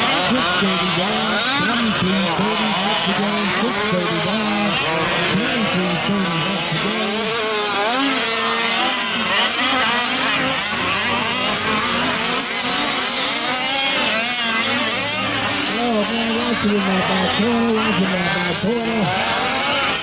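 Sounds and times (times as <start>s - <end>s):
small two-stroke engines revving: 0.0s - 20.0s.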